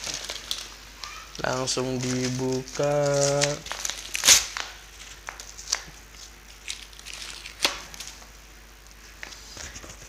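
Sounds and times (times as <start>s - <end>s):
packaging being torn and crinkled: 0.0s - 8.3s.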